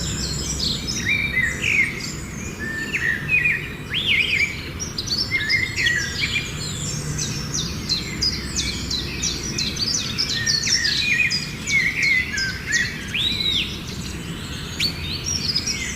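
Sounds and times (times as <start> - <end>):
birds chirping and calling: 0.0 - 15.9.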